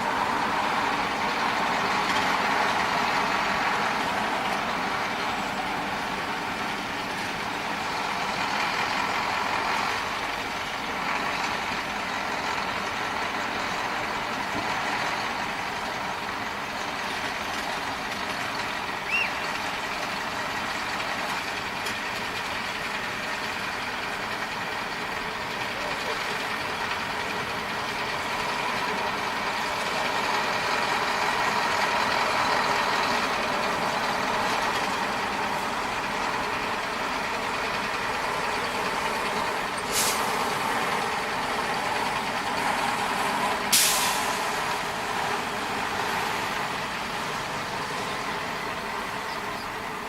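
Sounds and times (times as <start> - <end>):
truck engine running: 0.0 - 50.0.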